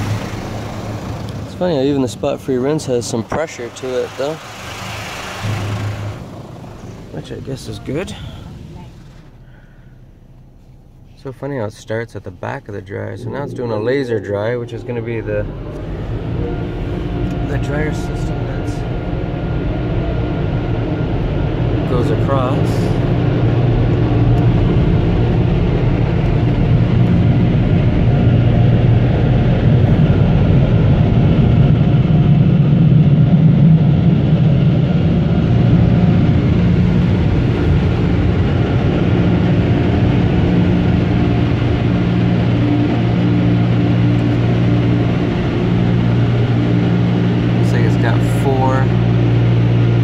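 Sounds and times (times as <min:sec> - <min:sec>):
dryer blowers humming: 0:00.0 - 0:50.0.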